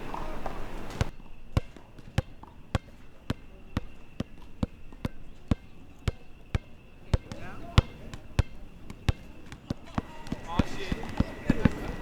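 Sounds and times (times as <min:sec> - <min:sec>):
basketball bouncing on hard court: 0:00.1 - 0:12.0.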